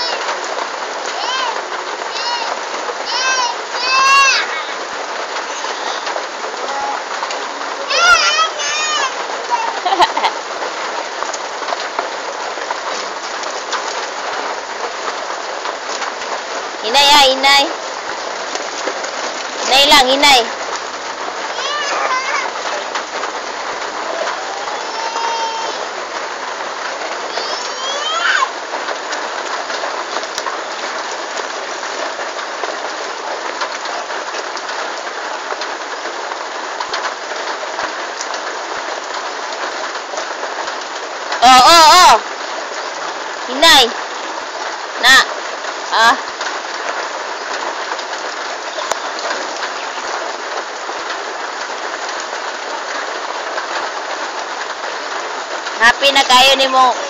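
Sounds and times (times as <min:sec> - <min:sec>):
rain hissing on puddles: 0:00.0 - 0:57.0.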